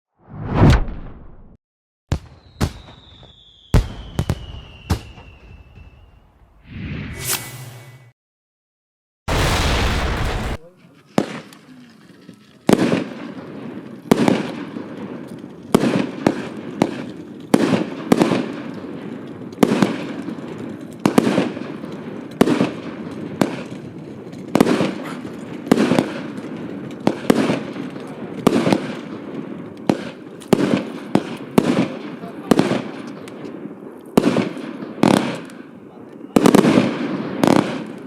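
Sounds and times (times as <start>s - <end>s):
firework bangs with echo: 2.1s - 6.1s, 9.3s - 11.5s, 12.7s - 38.0s.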